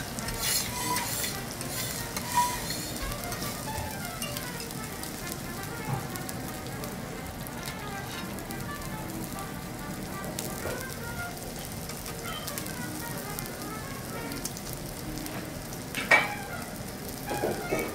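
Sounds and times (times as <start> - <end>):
steak sizzling on griddle: 0.0 - 17.9.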